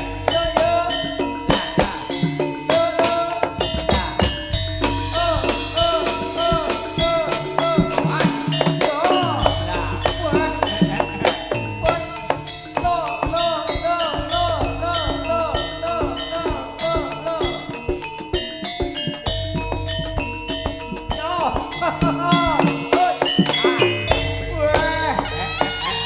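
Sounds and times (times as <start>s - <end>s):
drums and gong-chime percussion: 0.0s - 26.0s
high bending melody: 0.0s - 26.0s.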